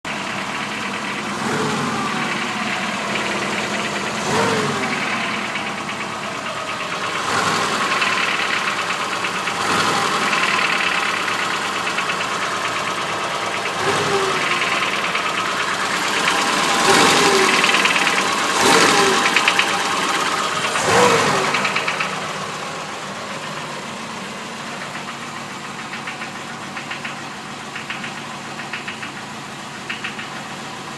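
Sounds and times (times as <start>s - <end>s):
car engine revving and idling: 0.0s - 30.9s
engine knocking at idle: 0.0s - 30.9s.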